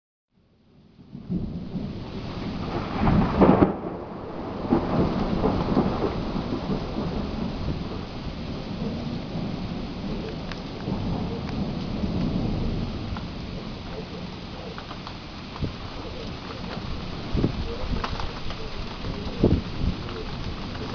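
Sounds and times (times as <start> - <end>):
rain hissing: 0.6 - 20.9
thunder crash: 1.0 - 20.9.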